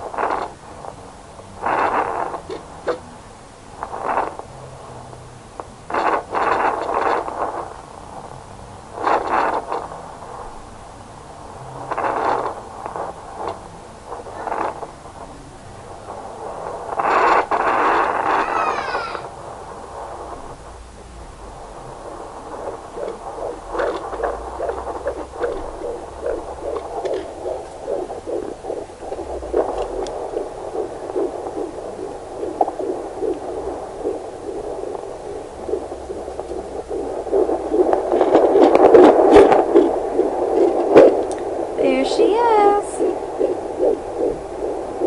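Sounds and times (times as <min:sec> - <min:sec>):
fetal heartbeat whooshing pulse: 0:00.0 - 0:03.1, 0:03.8 - 0:05.2, 0:05.9 - 0:10.6, 0:11.4 - 0:45.0.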